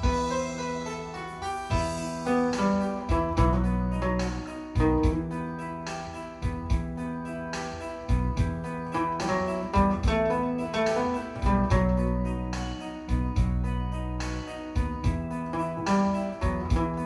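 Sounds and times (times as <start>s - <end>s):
bass: 0.0s - 17.0s
guitar: 0.0s - 17.0s
keyboard: 0.0s - 17.0s.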